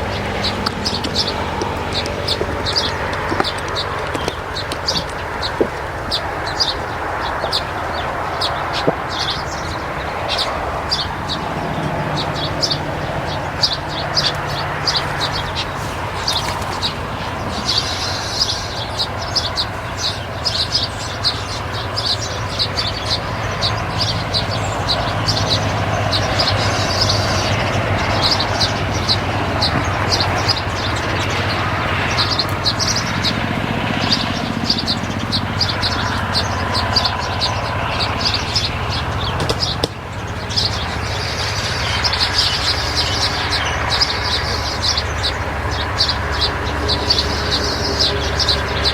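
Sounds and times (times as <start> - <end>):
low engine-like hum: 0.0 - 48.9
small birds chirping: 0.0 - 48.9.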